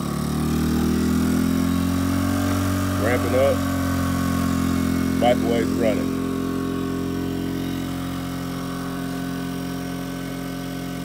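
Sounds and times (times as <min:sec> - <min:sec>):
generator engine humming: 0:00.0 - 0:11.0.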